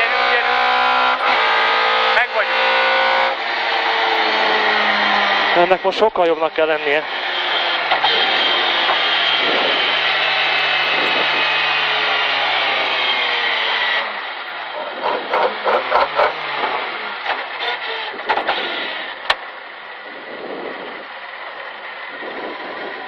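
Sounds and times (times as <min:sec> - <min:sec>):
rally car engine slowing: 0:00.0 - 0:23.0.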